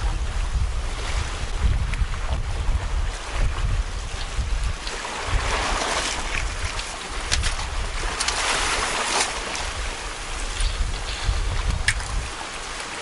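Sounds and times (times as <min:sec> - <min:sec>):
sea waves washing against rocks: 0:00.0 - 0:13.0
wind buffeting microphone: 0:00.0 - 0:13.0.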